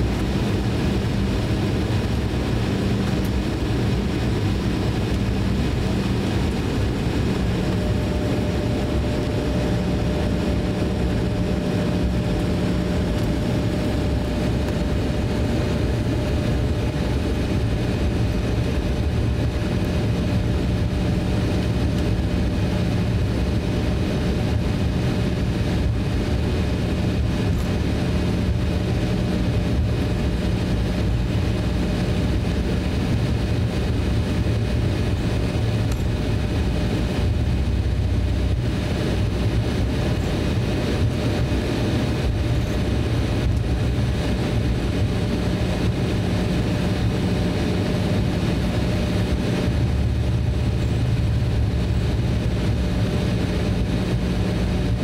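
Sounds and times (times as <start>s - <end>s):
jet engines low rumble: 0.0s - 55.0s
steady whining tone: 0.0s - 55.0s.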